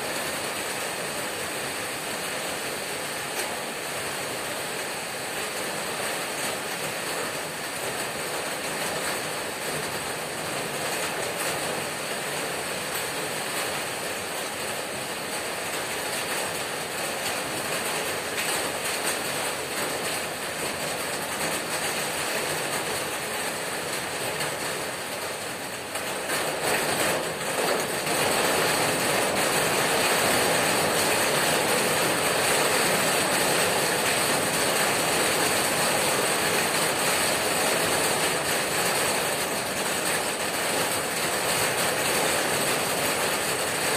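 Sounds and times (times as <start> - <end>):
heavy rain on a tin roof: 0.0 - 43.9.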